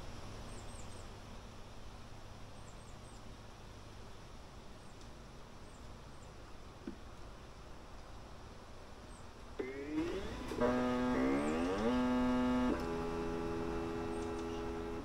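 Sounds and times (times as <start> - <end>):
faint background noise: 0.0 - 15.0
steady low hum: 0.0 - 15.0.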